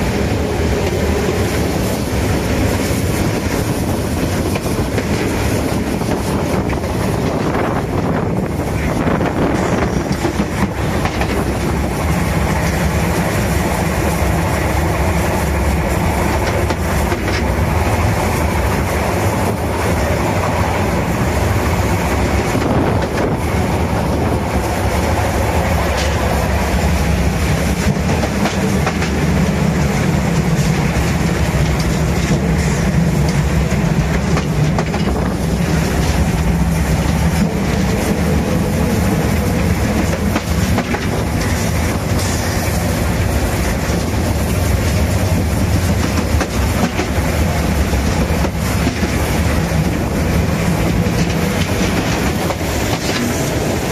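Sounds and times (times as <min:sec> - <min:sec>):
train wheels rolling on track: 0:00.0 - 0:53.9.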